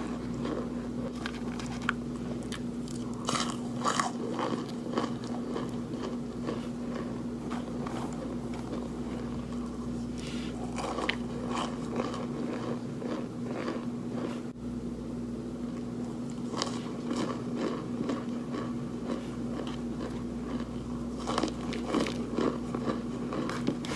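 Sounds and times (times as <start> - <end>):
crunchy food being chewed: 0.0 - 14.5, 15.7 - 23.9
steady low hum: 0.0 - 23.9.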